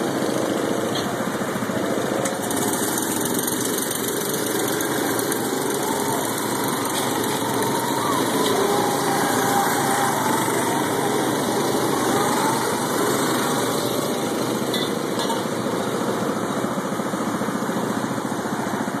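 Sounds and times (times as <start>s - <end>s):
go-kart engines running: 0.0s - 19.0s.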